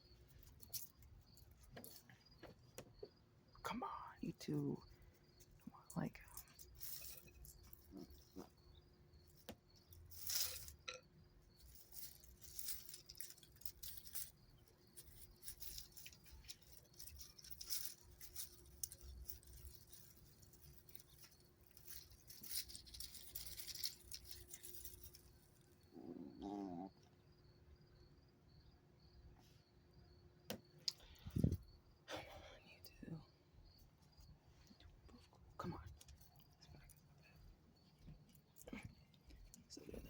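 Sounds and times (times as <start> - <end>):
rustling and scratching: 0.0 - 3.2, 4.9 - 27.5, 33.1 - 40.0.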